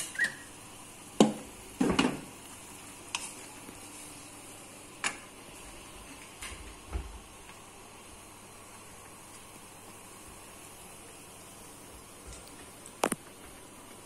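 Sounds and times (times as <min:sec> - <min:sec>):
spice paste sizzling in wok: 0:00.0 - 0:06.4, 0:07.2 - 0:14.0.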